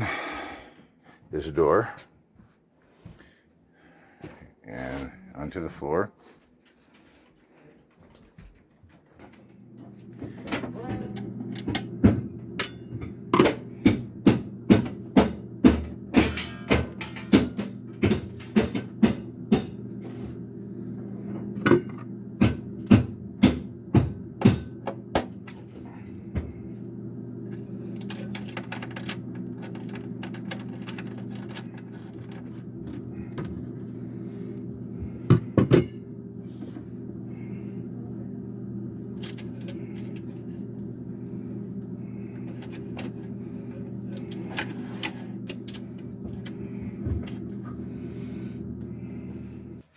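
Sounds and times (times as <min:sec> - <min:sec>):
low machine hum: 0:09.0 - 0:49.9.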